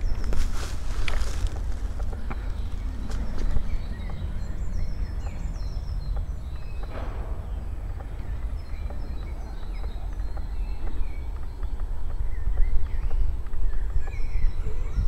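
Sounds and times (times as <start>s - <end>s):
low wind rumble: 0.0s - 15.0s
songbirds chirping and singing: 0.0s - 15.0s.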